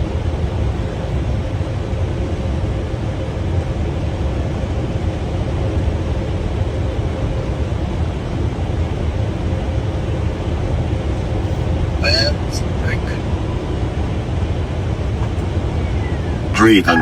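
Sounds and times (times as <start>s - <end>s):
airflow and engines rumbling: 0.0s - 17.0s.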